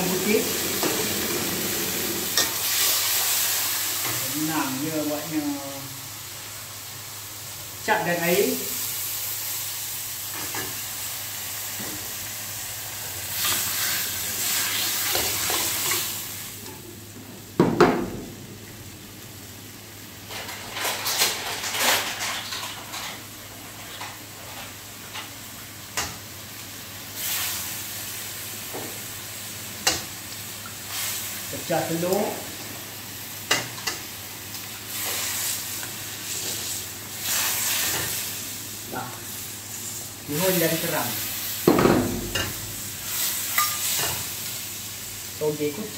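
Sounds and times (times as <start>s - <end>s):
sauce sizzling in a wok: 0.0s - 45.9s.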